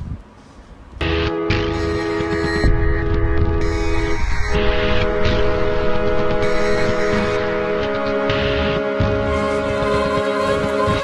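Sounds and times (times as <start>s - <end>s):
dense low beat: 1.0s - 11.0s
sustained synth chords: 1.0s - 11.0s.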